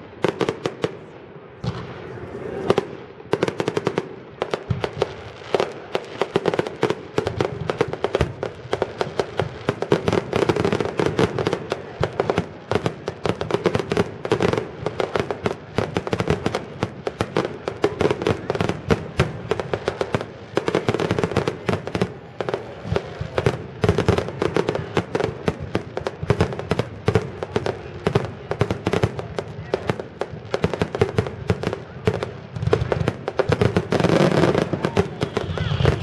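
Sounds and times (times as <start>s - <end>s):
fireworks bangs and crackles: 0.0s - 36.0s.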